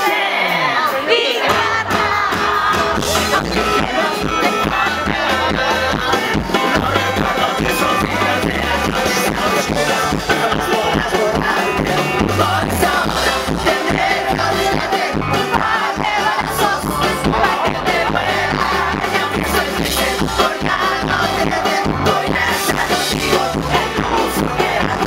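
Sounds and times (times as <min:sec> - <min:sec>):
drums: 0:00.0 - 0:25.0
lead singer singing: 0:00.0 - 0:25.0
live rock band playing: 0:00.0 - 0:25.0.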